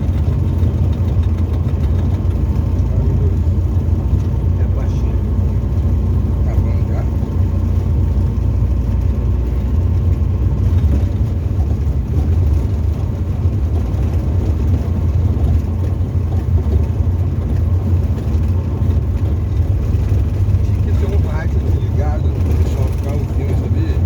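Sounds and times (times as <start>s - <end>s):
propeller engine drone: 0.0s - 24.0s.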